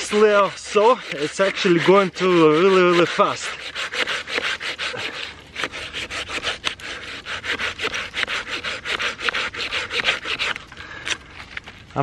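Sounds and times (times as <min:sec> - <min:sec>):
hand saw cutting wood: 0:00.0 - 0:10.7.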